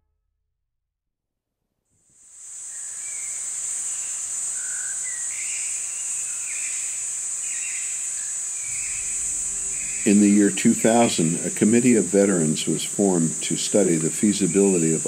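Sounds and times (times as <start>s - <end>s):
high-pitched insect chorus: 2.3s - 15.0s.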